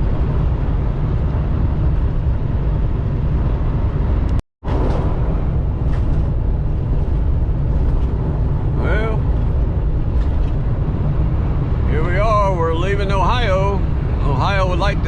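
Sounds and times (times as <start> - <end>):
truck cab cruising at speed: 0.0 - 15.0.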